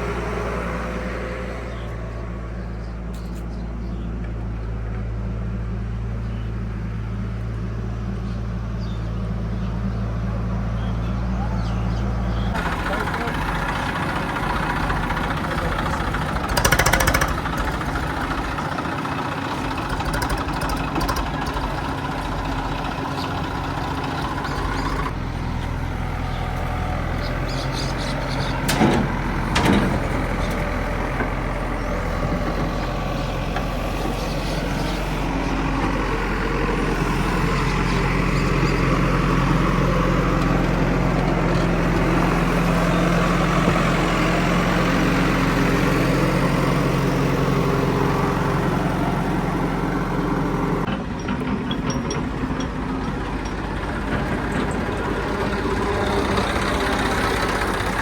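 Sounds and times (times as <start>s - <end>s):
deep engine drone: 0.0s - 58.0s
diesel engines running: 0.0s - 58.0s.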